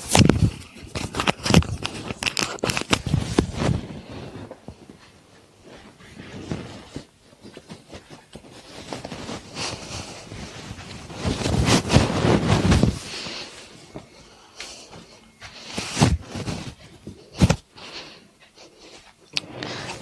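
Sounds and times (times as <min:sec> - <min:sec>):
fabric rubbing on microphone: 0:00.0 - 0:14.0, 0:15.5 - 0:17.6, 0:18.9 - 0:20.0.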